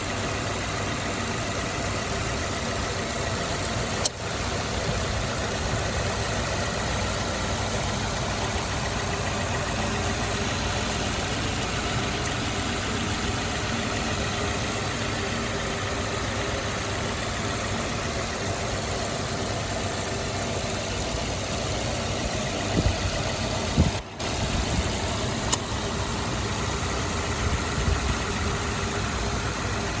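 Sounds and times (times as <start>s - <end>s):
pickup engine idling: 0.0s - 30.0s.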